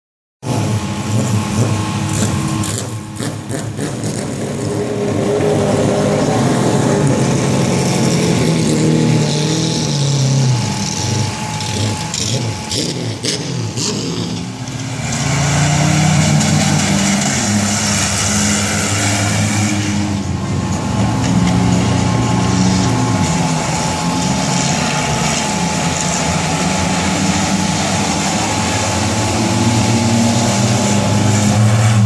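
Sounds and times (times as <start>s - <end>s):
stock car engines racing: 0.4s - 32.0s.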